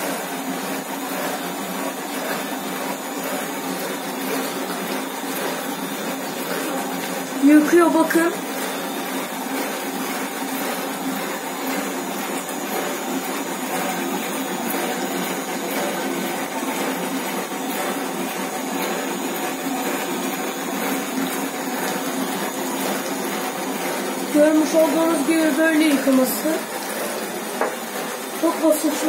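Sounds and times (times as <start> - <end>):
pump motor: 0.0 - 29.0
water spraying: 0.0 - 29.0.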